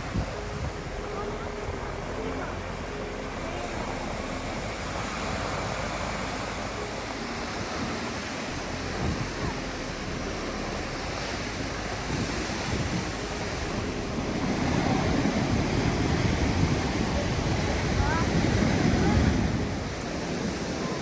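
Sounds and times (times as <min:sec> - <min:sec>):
rushing water: 0:00.0 - 0:21.0
wind buffeting microphone: 0:00.0 - 0:21.0.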